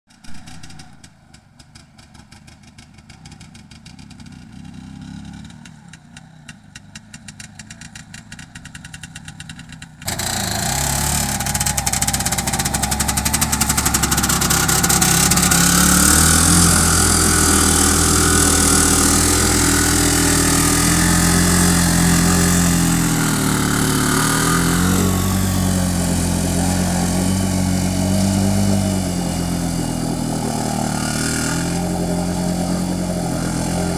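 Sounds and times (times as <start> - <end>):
vehicle engine running: 0.3 - 33.9.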